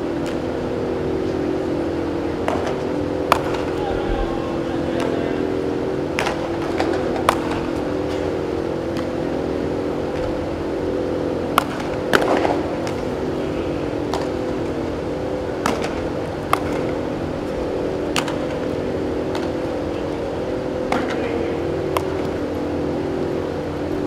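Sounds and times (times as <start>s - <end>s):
fan hum: 0.0s - 24.0s
baseballs being hit: 0.1s - 23.6s.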